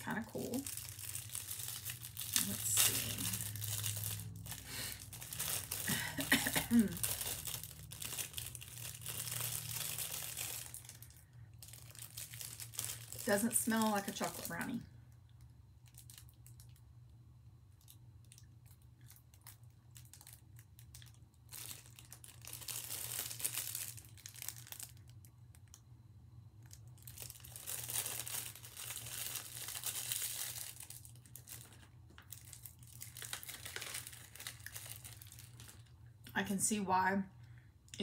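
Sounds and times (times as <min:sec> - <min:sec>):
plastic wrapper crinkling: 0:00.0 - 0:25.9, 0:26.6 - 0:36.3
faint steady low hum: 0:00.0 - 0:38.0.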